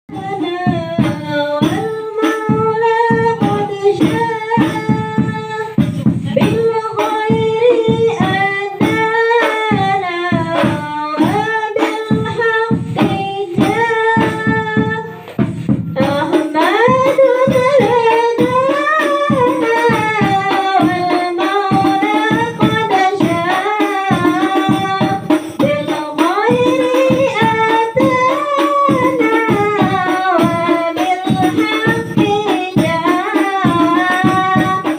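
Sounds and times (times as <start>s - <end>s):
women singing in unison: 0.0s - 34.9s
frame drum strokes: 0.2s - 34.9s.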